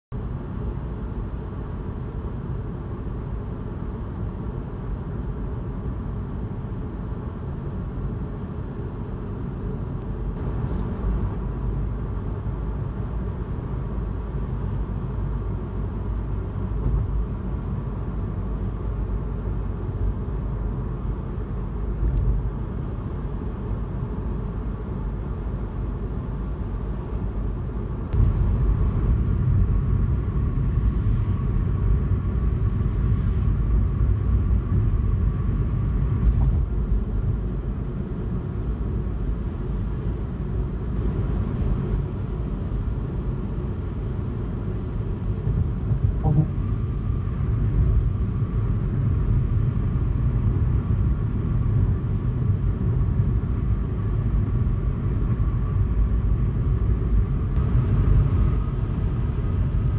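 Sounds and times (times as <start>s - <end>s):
car cabin road and engine rumble: 0.1s - 59.9s.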